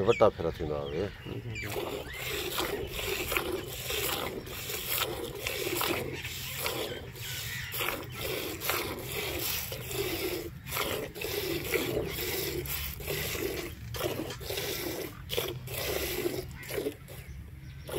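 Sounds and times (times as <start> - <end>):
milk squirting into a bucket: 1.6 - 17.9.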